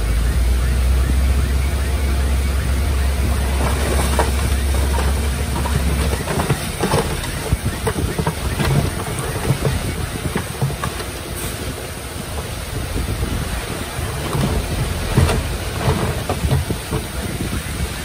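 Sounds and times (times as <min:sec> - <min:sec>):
bulldozer rumble: 0:00.0 - 0:18.0
knocks and clatter: 0:03.0 - 0:18.0.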